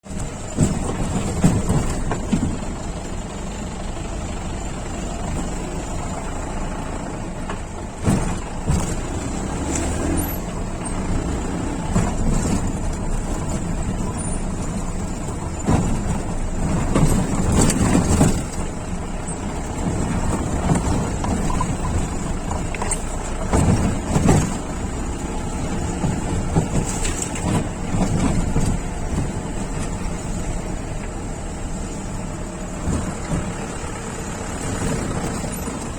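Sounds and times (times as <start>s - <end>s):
jeep engine running: 0.0s - 35.9s
vehicle knocks and jolts: 0.0s - 35.9s.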